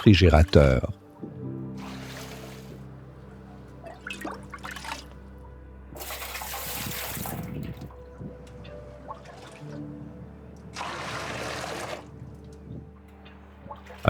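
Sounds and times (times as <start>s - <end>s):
soft background music: 0.0s - 14.0s
water running and splashing: 0.4s - 5.4s, 6.0s - 12.9s.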